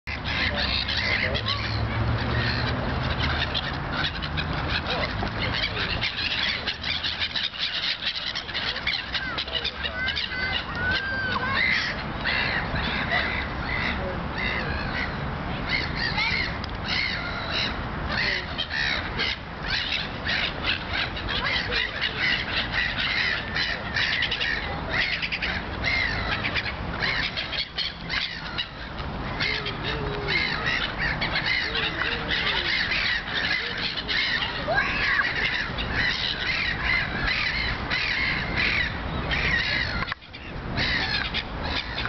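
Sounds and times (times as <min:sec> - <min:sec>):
birds chirping in chorus: 0:00.1 - 0:42.0.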